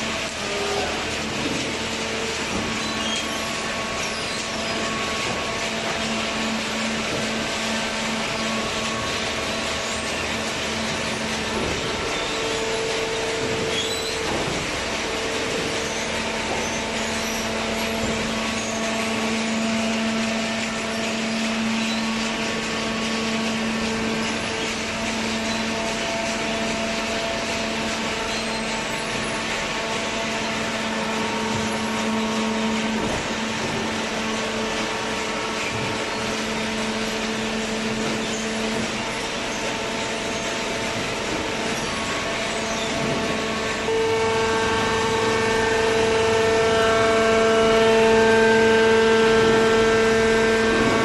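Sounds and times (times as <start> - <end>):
constant mechanical whine: 0.0 - 51.0
hydraulic baler motor humming: 0.0 - 51.0.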